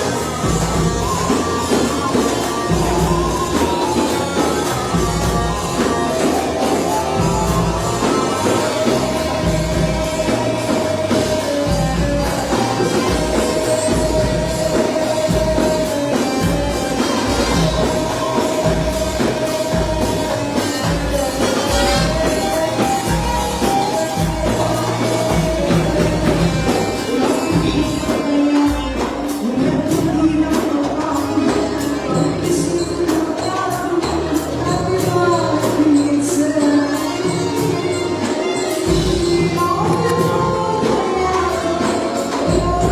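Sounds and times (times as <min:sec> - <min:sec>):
person singing: 0:00.0 - 0:42.9
pop song with percussion beat: 0:00.0 - 0:42.9.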